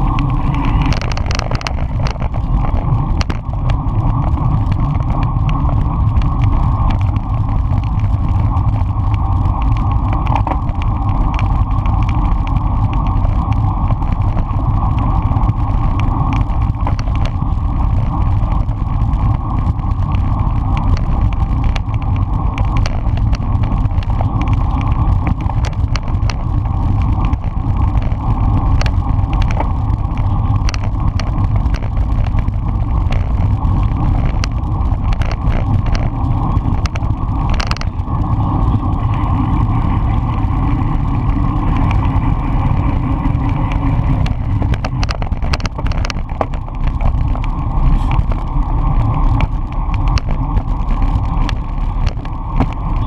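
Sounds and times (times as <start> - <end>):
bicycle tyre and road noise: 0.0 - 53.0
wind rushing over microphone: 0.0 - 53.0
small clicks and knocks: 0.1 - 39.0, 42.8 - 53.0.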